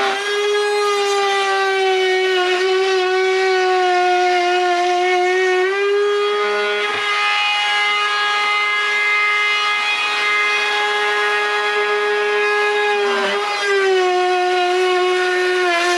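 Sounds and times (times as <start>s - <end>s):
power tool motor whining: 0.0s - 15.9s.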